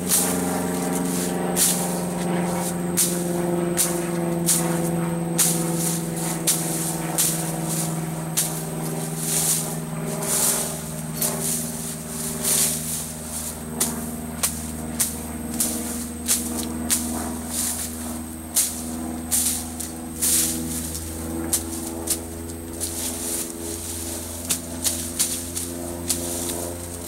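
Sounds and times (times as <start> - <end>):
leafy stems rustling: 0.0 - 27.0
machete hacking through brush: 0.0 - 27.0.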